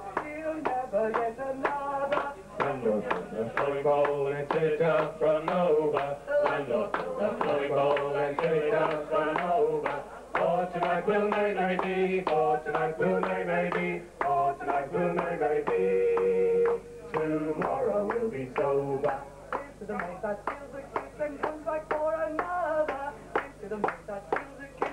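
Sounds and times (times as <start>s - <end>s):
group singing in harmony: 0.0s - 24.9s.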